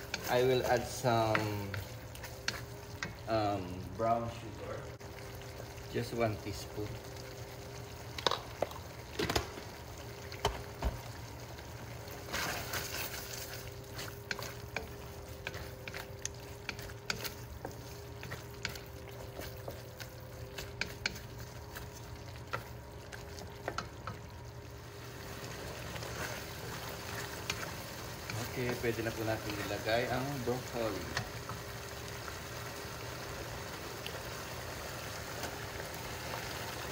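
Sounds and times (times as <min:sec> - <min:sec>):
sauce bubbling and sizzling: 0:00.0 - 0:36.9.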